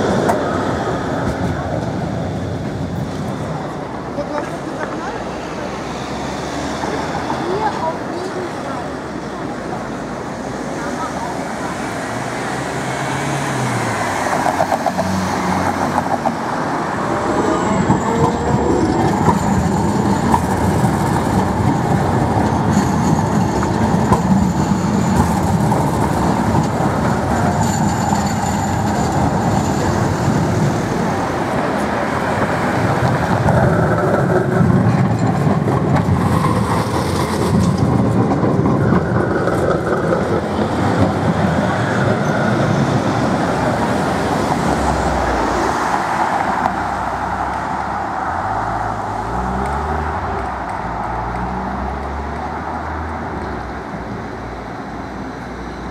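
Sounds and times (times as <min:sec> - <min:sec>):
tram wheels rumbling on rails: 0:00.0 - 0:55.9.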